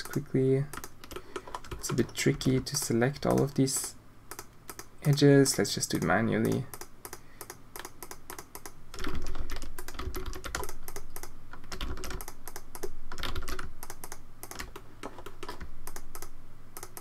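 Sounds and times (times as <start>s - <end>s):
keyboard and mouse clicking: 0.0s - 17.0s.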